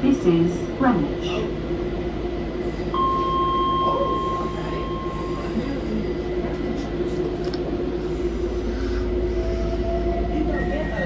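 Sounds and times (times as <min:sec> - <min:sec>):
train electrical hum and whine: 0:00.0 - 0:11.0.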